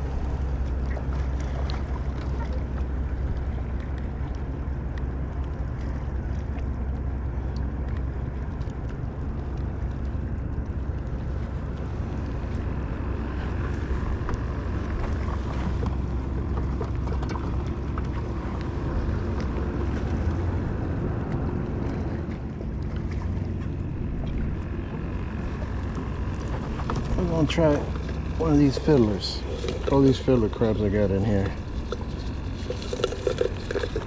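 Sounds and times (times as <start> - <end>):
boat motor rumble: 0.0 - 34.0
water washing: 0.0 - 34.0.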